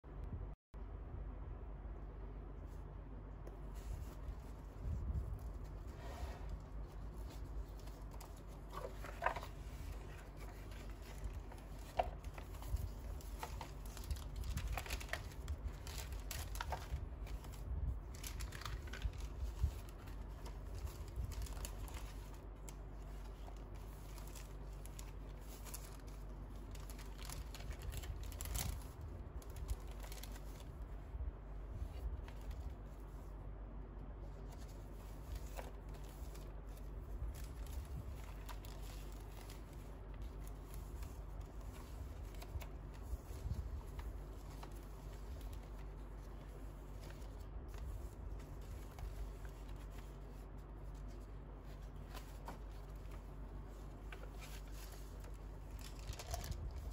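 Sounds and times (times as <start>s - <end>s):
paper pages rustling: 3.4s - 33.4s, 34.2s - 56.9s.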